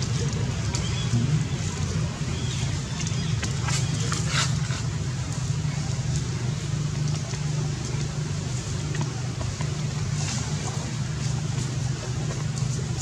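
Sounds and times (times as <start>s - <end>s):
low rumble: 0.0s - 13.0s
rustle: 0.0s - 13.0s.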